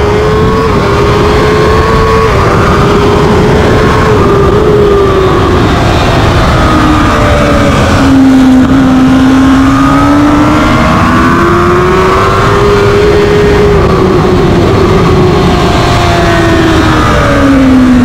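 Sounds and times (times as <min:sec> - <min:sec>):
motorcycle engine revving: 0:00.0 - 0:18.0
wind noise on microphone: 0:00.0 - 0:18.0.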